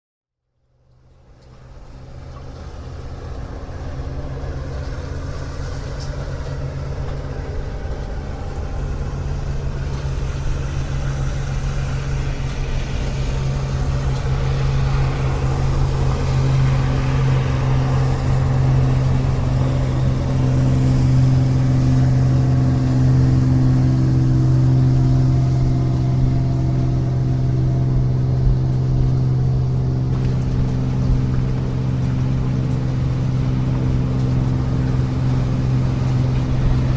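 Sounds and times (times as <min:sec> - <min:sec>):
motorboat engine running: 0:00.5 - 0:36.9.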